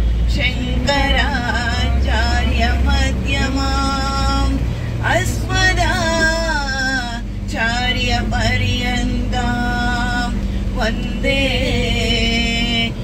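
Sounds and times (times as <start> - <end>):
bus rumbling: 0.0 - 13.0
women singing into a microphone: 0.3 - 13.0.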